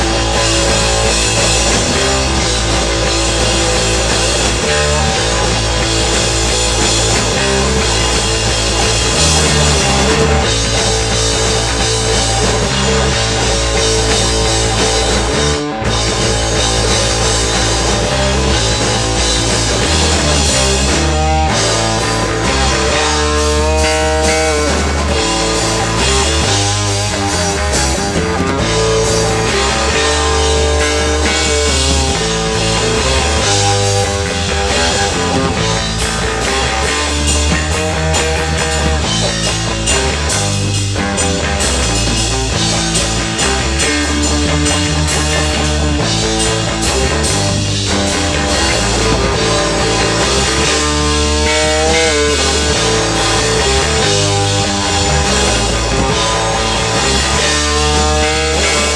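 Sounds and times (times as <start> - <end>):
rock band playing live: 0.0 - 58.9.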